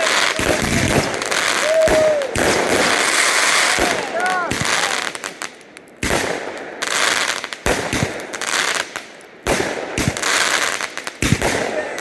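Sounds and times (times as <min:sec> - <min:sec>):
crackling hiss: 0:00.0 - 0:12.0
firework bangs: 0:00.0 - 0:12.0
small firework pops: 0:00.0 - 0:12.0.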